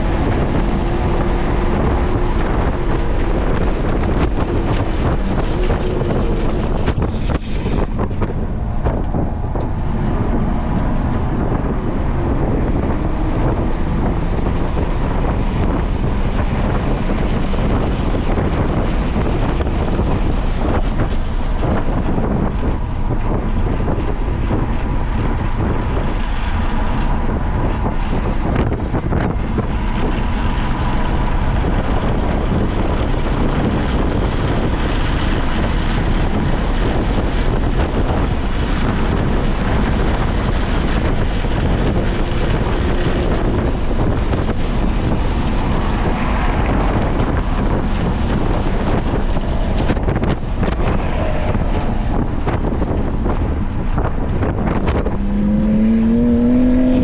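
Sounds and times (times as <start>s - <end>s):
car engine under load: 0.0s - 57.0s
wind noise on microphone: 0.0s - 57.0s.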